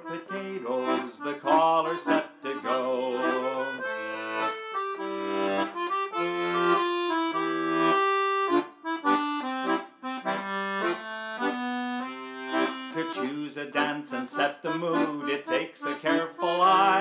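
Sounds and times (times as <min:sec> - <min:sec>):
piano accordion playing: 0:00.0 - 0:17.0.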